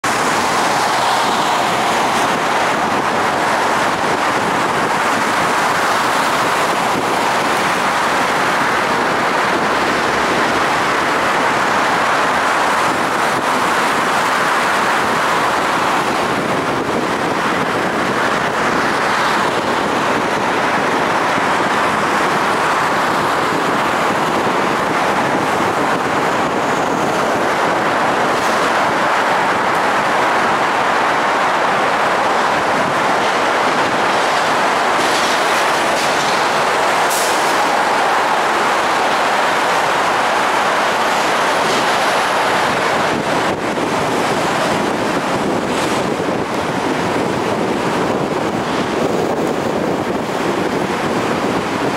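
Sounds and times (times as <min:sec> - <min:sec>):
car road noise at speed: 0:00.0 - 0:51.9.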